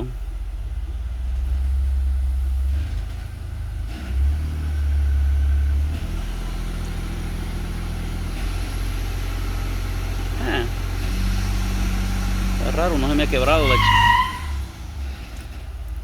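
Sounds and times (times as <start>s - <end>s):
truck engine revving and idling: 0.0s - 16.0s.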